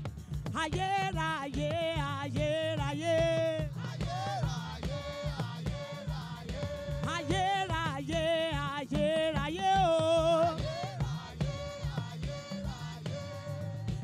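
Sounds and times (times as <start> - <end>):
steady drum beat: 0.0 - 14.0
choir singing gospel: 0.6 - 14.0.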